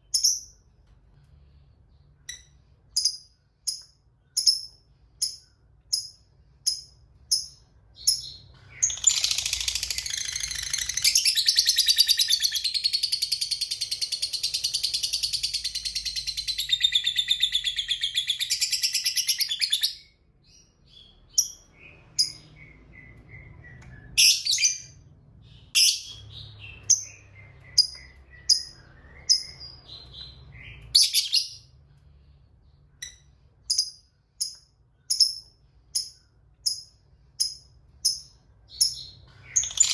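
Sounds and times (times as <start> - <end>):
lovebird high chirps: 2.2 - 20.1, 20.9 - 25.0, 25.7 - 31.7, 33.0 - 39.9.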